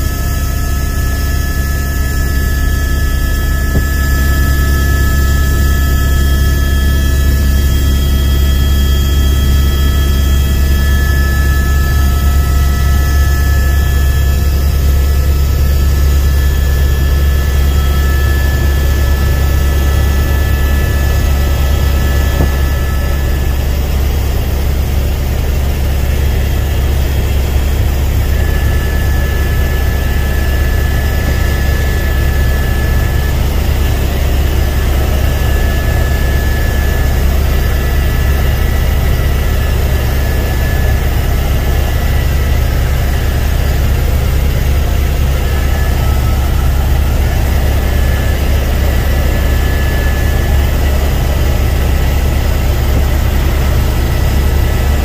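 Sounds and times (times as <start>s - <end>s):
faint high whine: 0.0s - 55.0s
helicopter rotor and engine drone: 0.0s - 55.0s.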